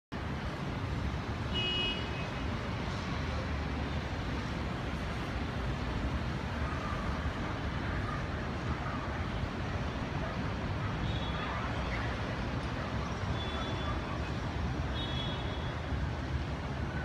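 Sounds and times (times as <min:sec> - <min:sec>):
city traffic rumble: 0:00.1 - 0:17.0.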